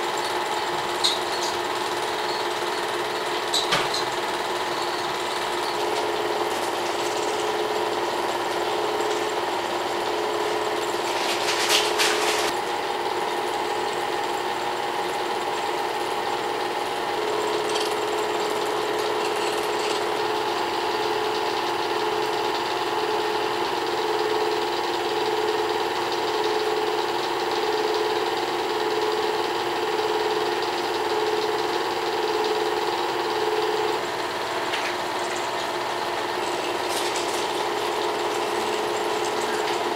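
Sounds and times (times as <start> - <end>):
film projector whir and clatter: 0.0 - 39.9.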